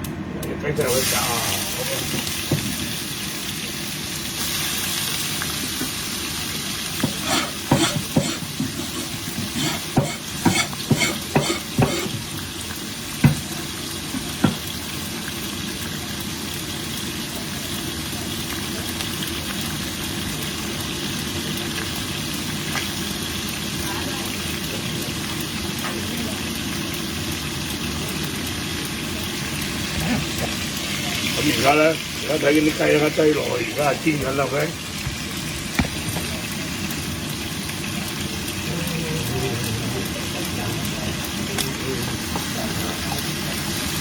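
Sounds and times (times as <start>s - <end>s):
chicken sizzling in oil: 0.8s - 44.0s.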